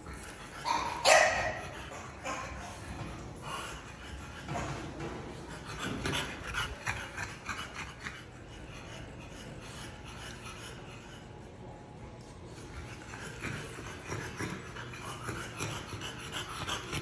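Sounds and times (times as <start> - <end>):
dogs sniffing and panting: 0.0 - 17.0.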